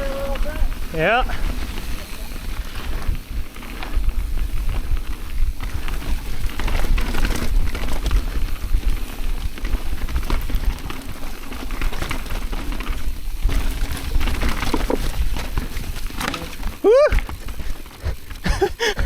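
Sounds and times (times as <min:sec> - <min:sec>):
bike rattling and clattering: 0:00.0 - 0:19.0
bike tyres rolling over rock: 0:00.0 - 0:19.0
wind rumble: 0:00.0 - 0:19.0.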